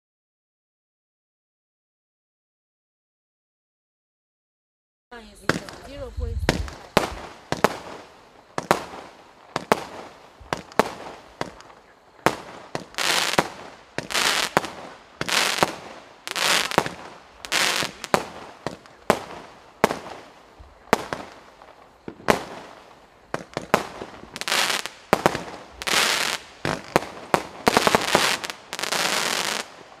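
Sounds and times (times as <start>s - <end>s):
crackling hiss: 5.2s - 30.0s
firework shots and bursts: 5.4s - 30.0s
rapid crackling pops: 5.5s - 30.0s.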